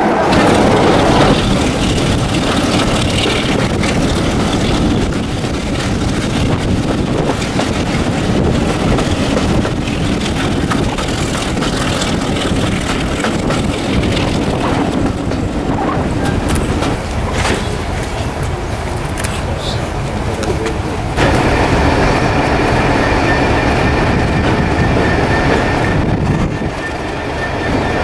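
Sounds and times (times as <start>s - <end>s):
diesel locomotive engine: 0.0s - 28.0s
wind on microphone: 0.0s - 28.0s.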